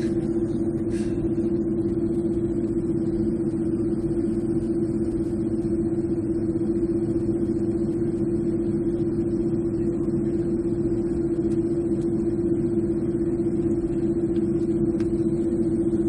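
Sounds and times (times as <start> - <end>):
airliner engine drone in cabin: 0.0 - 16.0
faint high whine: 0.0 - 16.0.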